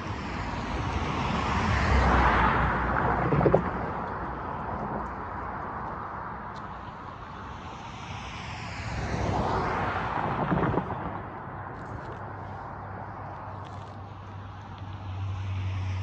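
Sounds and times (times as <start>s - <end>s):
road traffic: 0.0s - 16.0s
vehicle passing: 0.0s - 16.0s.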